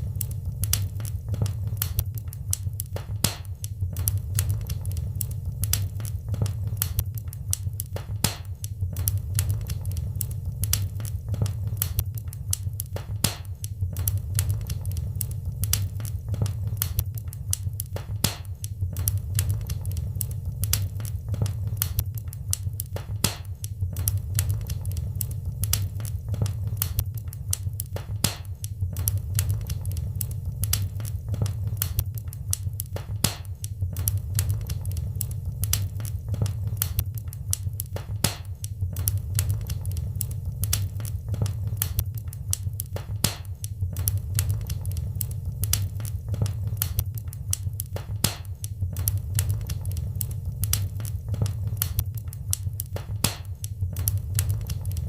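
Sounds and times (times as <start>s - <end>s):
low rumble of burning: 0.0s - 55.0s
sharp snaps and pops: 0.0s - 55.0s
wood fire crackling: 0.0s - 55.0s.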